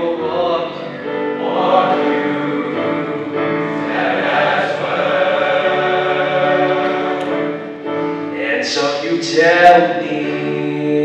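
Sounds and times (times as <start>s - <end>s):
boys' choir singing: 0.0s - 11.0s.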